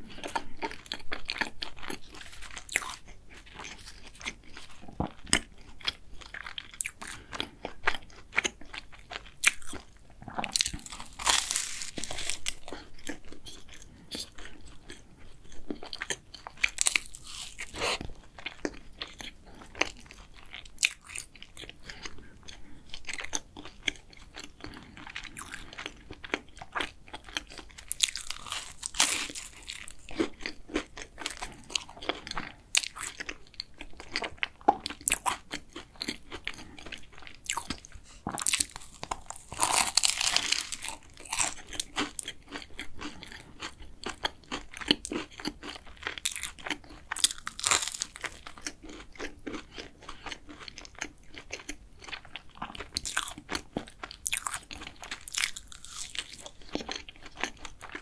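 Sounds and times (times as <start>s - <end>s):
chewing: 0.0s - 58.0s
crisp pastry crunching: 0.1s - 58.0s.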